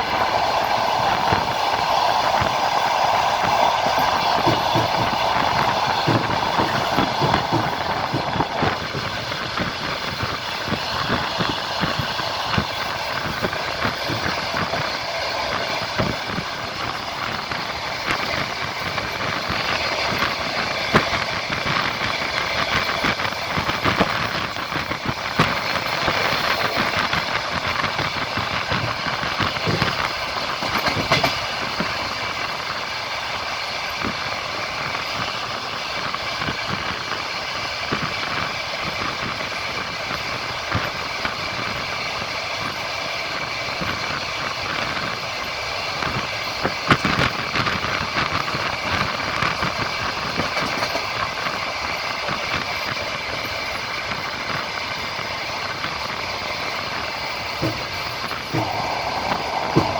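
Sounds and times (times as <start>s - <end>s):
train running rumble: 0.0s - 59.9s
train wheels clattering over rail joints: 0.0s - 59.9s.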